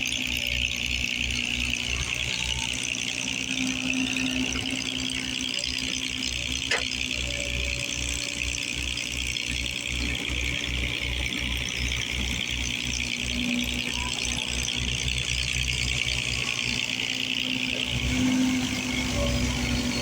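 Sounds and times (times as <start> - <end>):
machinery high-pitched squeal: 0.0 - 20.0
machinery throbbing rumble: 0.0 - 20.0.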